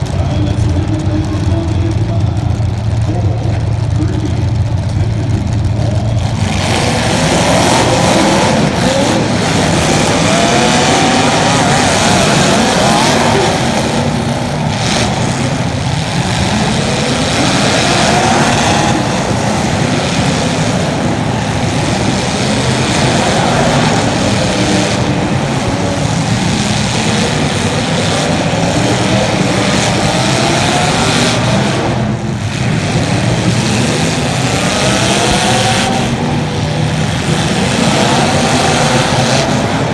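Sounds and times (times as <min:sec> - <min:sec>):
race car engine accelerating: 0:00.0 - 0:39.9
steady rushing noise: 0:00.0 - 0:39.9.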